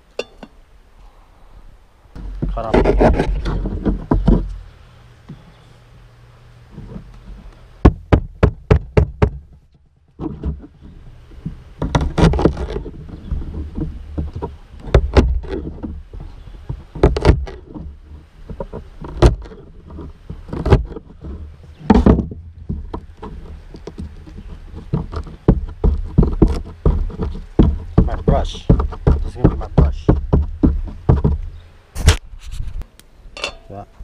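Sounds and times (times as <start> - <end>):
camp gear knocking and clattering: 0.1 - 0.6, 2.2 - 4.7, 6.7 - 31.7, 33.4 - 34.0.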